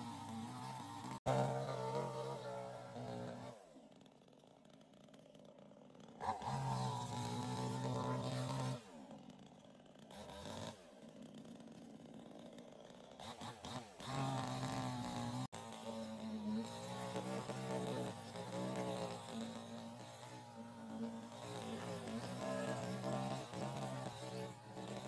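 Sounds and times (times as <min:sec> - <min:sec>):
chainsaw engine revving: 0:00.0 - 0:25.0.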